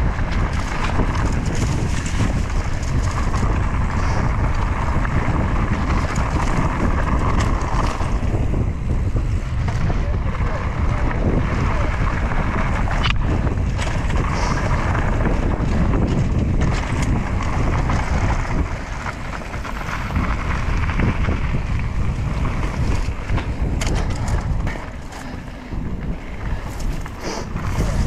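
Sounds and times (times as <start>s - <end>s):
low rumble of bike on trail: 0.0s - 28.0s
wind buffeting microphone: 0.0s - 28.0s.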